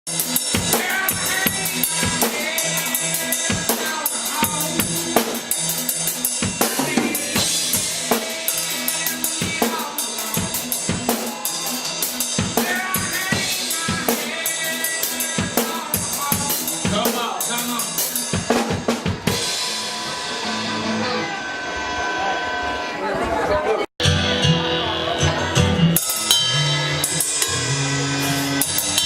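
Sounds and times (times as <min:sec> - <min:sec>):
drum kit beat: 0:00.0 - 0:21.6, 0:24.0 - 0:29.0
live band playing: 0:00.0 - 0:23.1, 0:24.0 - 0:29.0.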